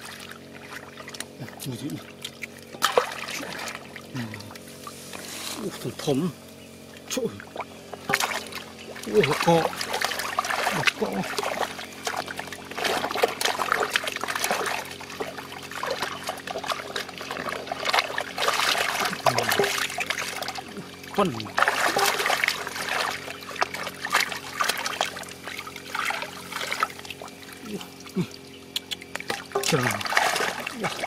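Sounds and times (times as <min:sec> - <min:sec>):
muddy water splashing: 0:00.0 - 0:31.0
water trickling: 0:00.0 - 0:31.0.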